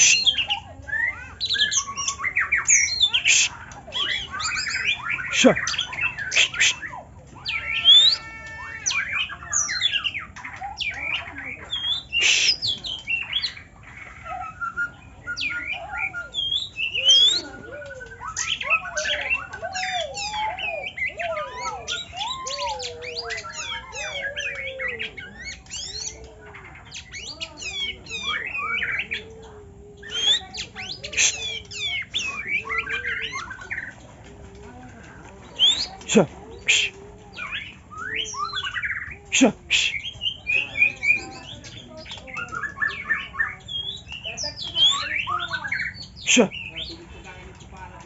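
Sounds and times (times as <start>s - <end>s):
birds singing whistled phrases: 0.0s - 48.0s.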